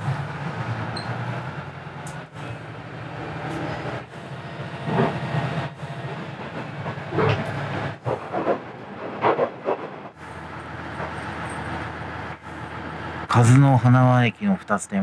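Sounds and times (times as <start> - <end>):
wheel-on-rail noise: 0.0 - 14.8
railcar engine hum: 0.0 - 15.0.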